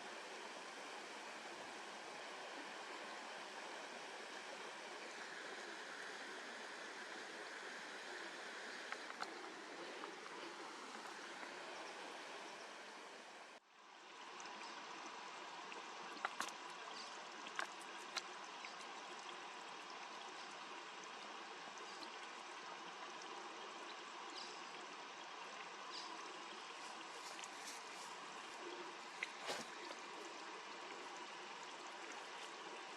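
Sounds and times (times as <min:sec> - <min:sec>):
stream flowing: 0:00.0 - 0:32.9.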